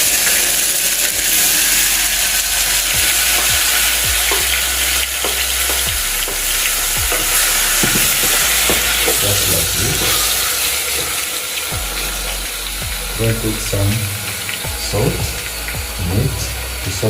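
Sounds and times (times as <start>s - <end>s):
tomatoes sizzling in hot oil: 0.0s - 17.0s.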